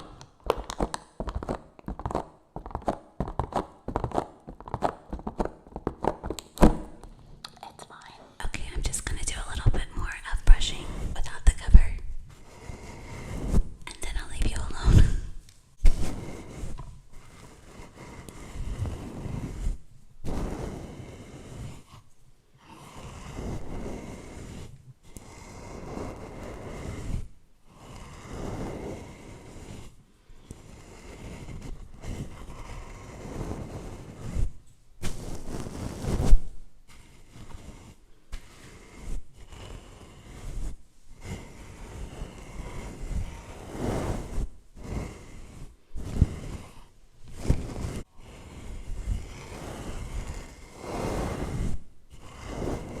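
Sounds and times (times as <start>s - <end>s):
brush scratching a microphone: 0.0s - 7.0s, 8.0s - 53.0s.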